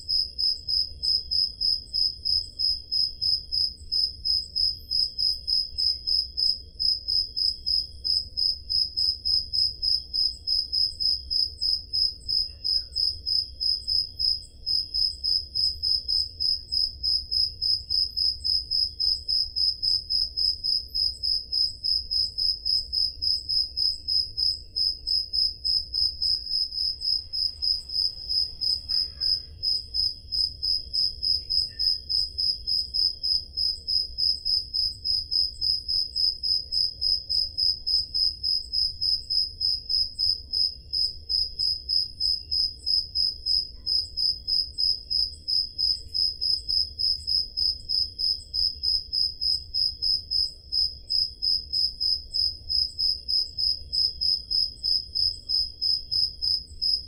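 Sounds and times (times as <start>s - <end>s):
faint low cricket chirping: 0.0s - 57.0s
loud cricket chirping: 0.0s - 57.0s.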